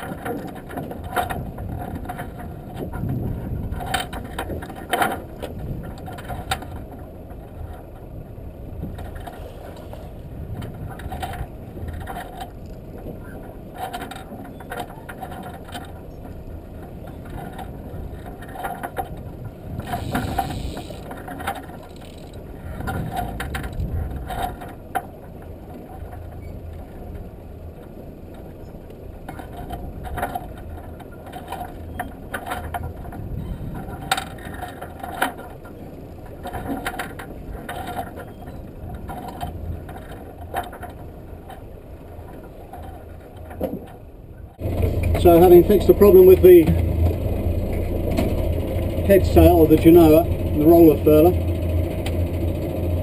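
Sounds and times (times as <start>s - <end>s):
wind and sea rushing: 0.0s - 53.0s.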